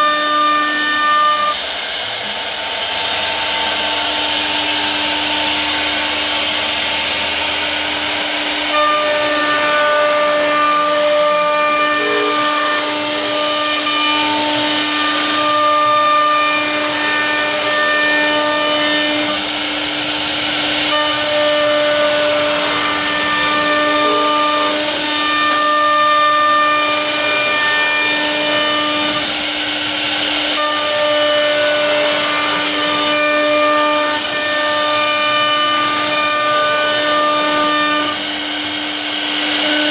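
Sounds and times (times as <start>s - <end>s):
higher whining tones: 0.0s - 39.9s
router spindle whine: 0.0s - 39.9s.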